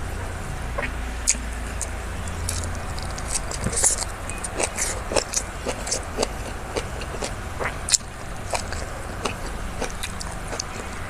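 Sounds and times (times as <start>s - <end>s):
crunchy chewing: 0.0s - 11.0s
low steady hum: 0.0s - 11.0s.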